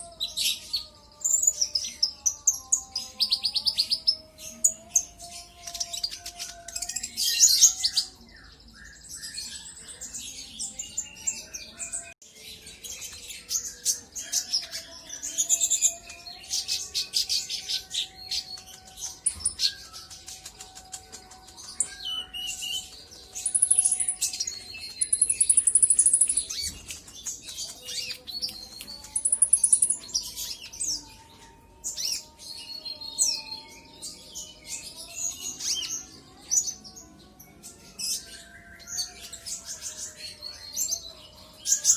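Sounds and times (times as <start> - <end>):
bird chirping and twittering: 0.0 - 41.9.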